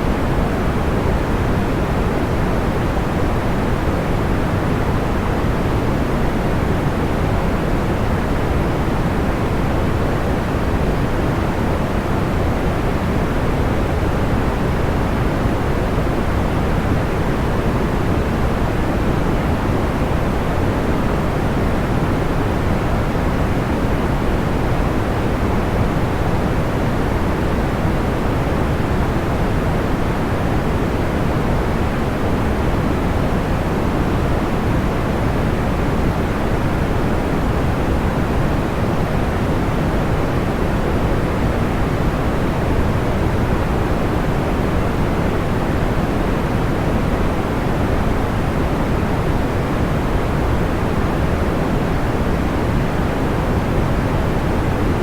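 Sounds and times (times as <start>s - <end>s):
steady white noise: 0.0s - 55.0s.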